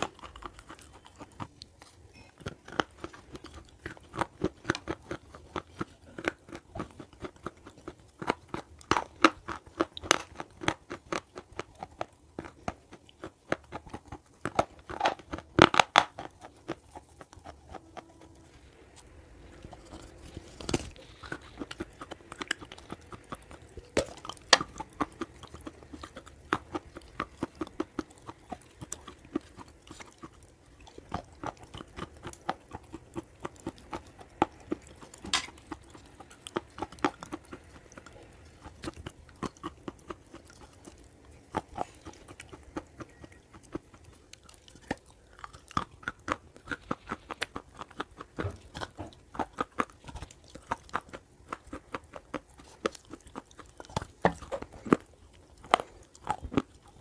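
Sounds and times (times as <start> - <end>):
chewing and crunching clay: 0.0 - 57.0.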